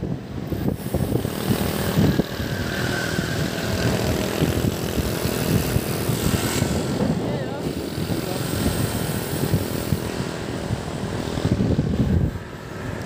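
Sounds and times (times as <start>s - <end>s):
motorcycle traffic passing: 0.0s - 13.0s
wind buffeting microphone: 0.0s - 13.0s.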